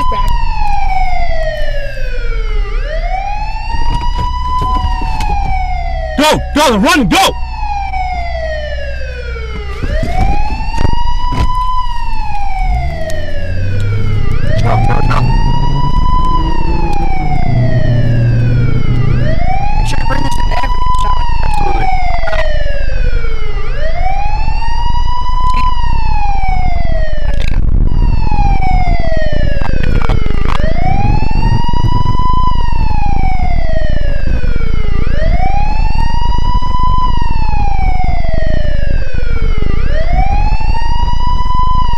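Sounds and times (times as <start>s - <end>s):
wailing siren: 0.0s - 41.9s.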